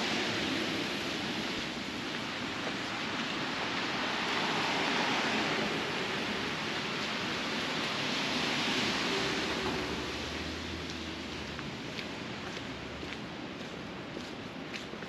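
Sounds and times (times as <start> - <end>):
tyres hissing on wet street: 0.0 - 15.0.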